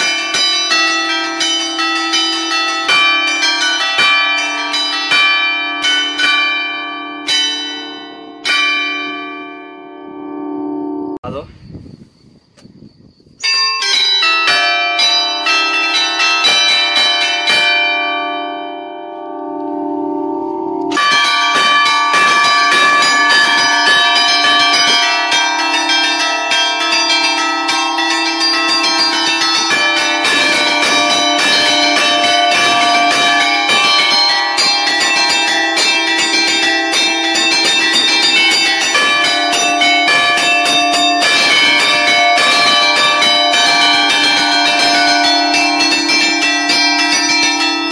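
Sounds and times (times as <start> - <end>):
church bells chiming: 0.0 - 11.2, 13.4 - 47.9.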